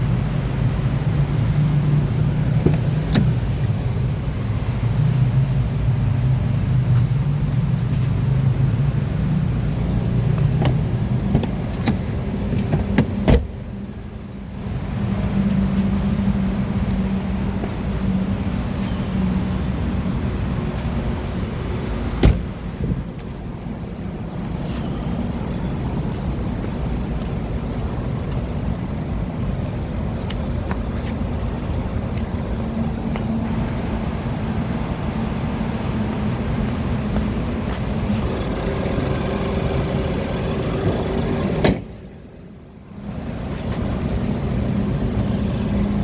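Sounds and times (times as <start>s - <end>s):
car engine humming: 0.0s - 46.0s.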